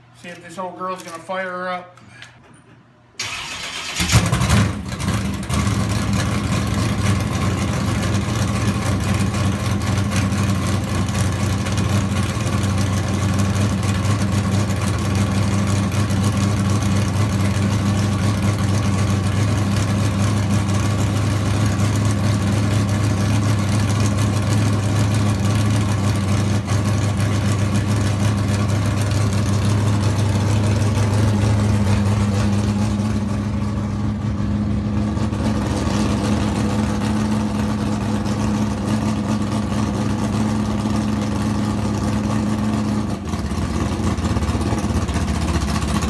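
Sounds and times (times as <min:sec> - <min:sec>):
car engine cranking and idling: 0:03.2 - 0:46.0.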